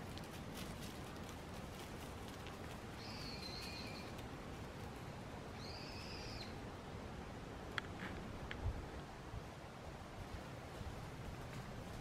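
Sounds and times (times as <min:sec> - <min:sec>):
woodland background hiss: 0:00.0 - 0:12.0.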